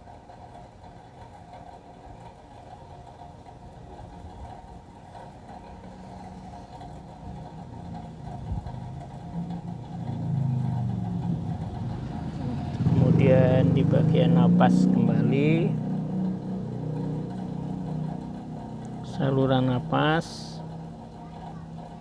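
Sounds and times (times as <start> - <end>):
vehicle engine running: 1.1 - 22.0.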